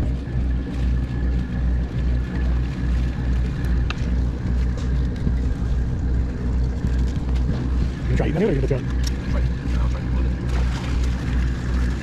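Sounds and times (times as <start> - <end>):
boat engine droning: 0.0 - 12.0
wind and water noise: 0.0 - 12.0.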